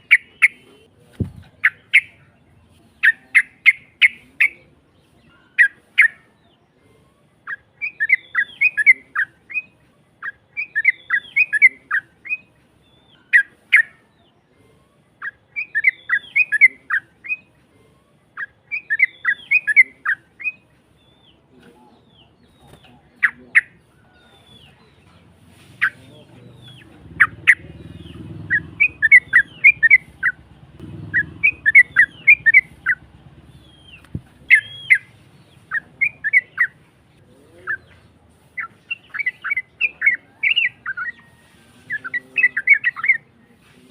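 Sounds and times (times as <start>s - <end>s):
bulbul singing: 0.0s - 6.7s, 7.4s - 17.6s, 18.3s - 43.5s.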